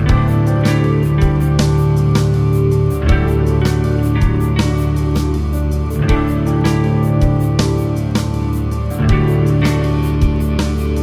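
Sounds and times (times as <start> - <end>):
guitar music with drum beat: 0.0 - 11.0.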